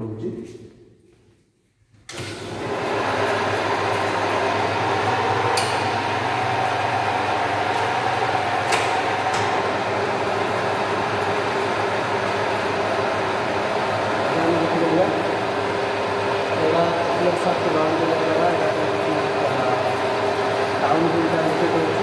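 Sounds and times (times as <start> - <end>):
electric motor running: 2.4 - 22.0.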